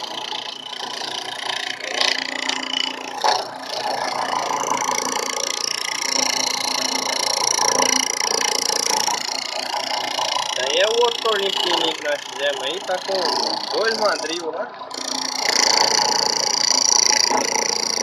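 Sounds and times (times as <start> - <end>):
lathe motor whining: 0.0 - 18.0.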